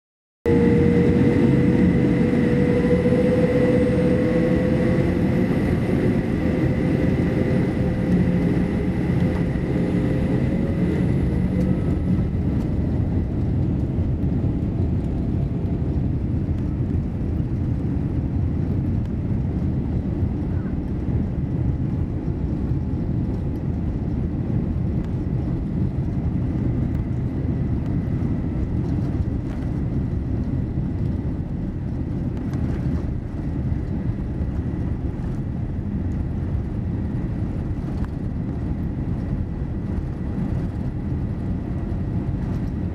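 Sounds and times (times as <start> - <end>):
airliner engines and wheels rumbling: 0.5 - 42.9.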